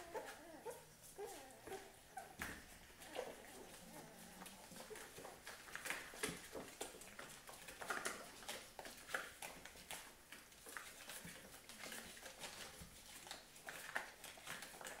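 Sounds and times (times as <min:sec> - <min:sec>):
puppies suckling smacking: 0:00.1 - 0:15.0.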